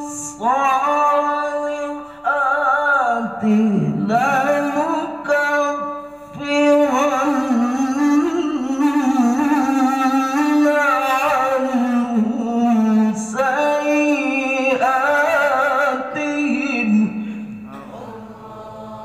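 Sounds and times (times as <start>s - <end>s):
man reciting melodically into microphone: 0.0s - 18.7s.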